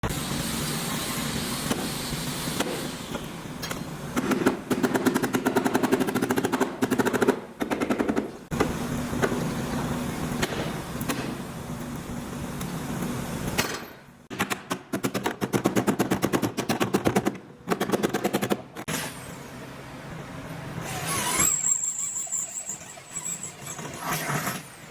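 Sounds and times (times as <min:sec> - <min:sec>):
steady background hum: 0:00.0 - 0:24.9.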